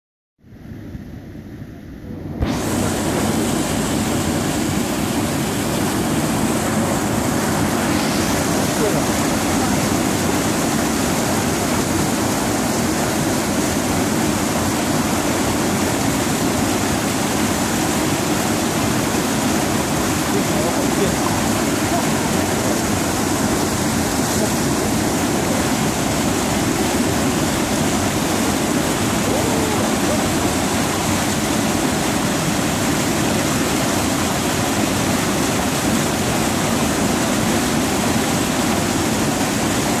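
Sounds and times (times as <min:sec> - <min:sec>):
water rushing over a dam: 0:02.1 - 0:40.0.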